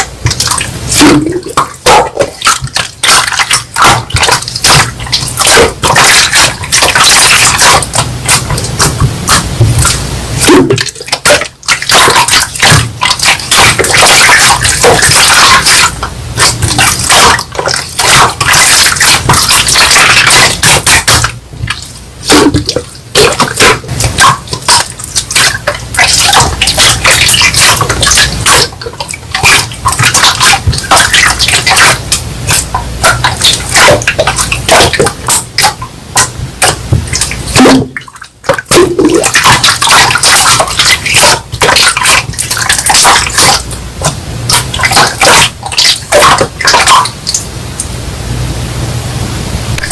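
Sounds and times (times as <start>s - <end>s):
slime squelching by hand: 0.0s - 47.9s.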